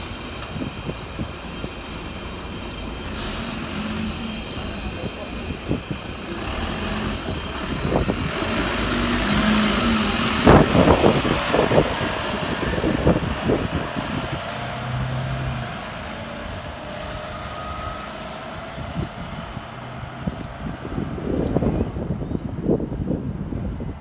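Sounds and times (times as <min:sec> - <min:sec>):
bus diesel engine accelerating: 0:00.0 - 0:24.0.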